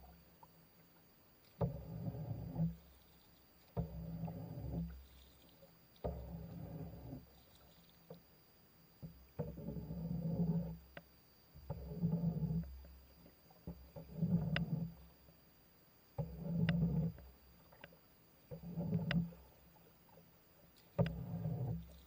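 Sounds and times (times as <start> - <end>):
water rumbling and gurgling: 0.0 - 22.0.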